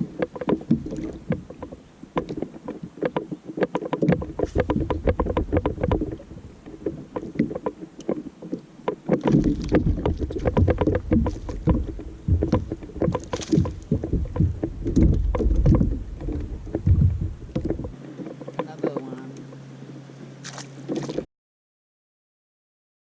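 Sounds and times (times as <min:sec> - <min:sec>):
low wind rumble: 0:00.0 - 0:21.2
water lapping against boat hull: 0:00.0 - 0:21.3.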